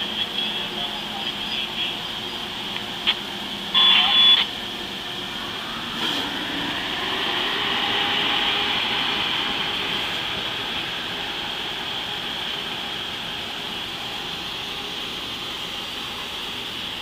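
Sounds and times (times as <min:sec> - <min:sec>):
trains running rumble and hiss: 0:00.0 - 0:17.0.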